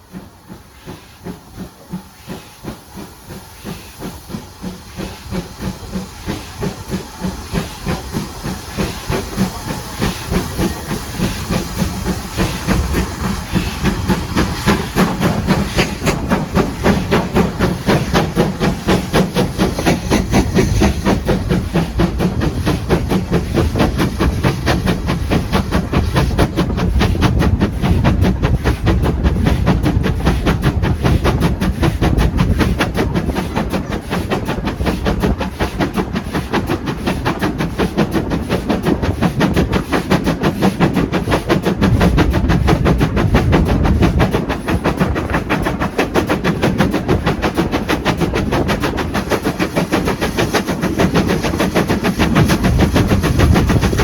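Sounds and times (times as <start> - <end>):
rumble of moving train: 0.0 - 54.0
steam locomotive chuffing: 0.0 - 54.0.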